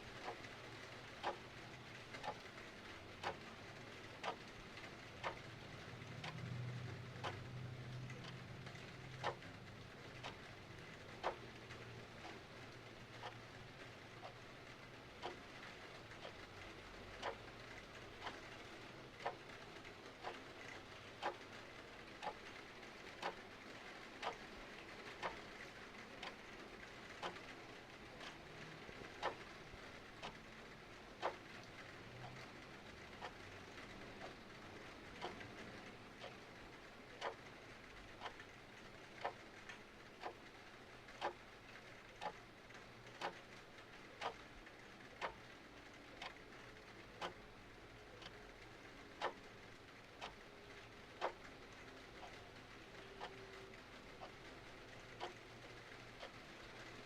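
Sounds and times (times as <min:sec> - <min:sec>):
clock ticking: 0:00.0 - 0:57.0
soft hiss of rain: 0:00.0 - 0:57.0.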